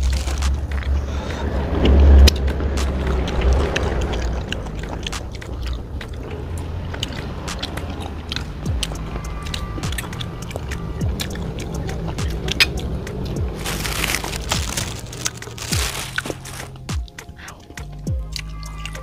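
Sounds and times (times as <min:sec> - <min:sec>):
chewing crunchy food: 0:00.0 - 0:19.0.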